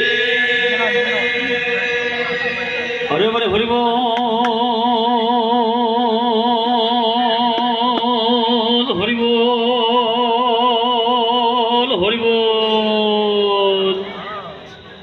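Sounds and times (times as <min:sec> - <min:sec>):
man singing long vibrato note: 0:00.0 - 0:14.1.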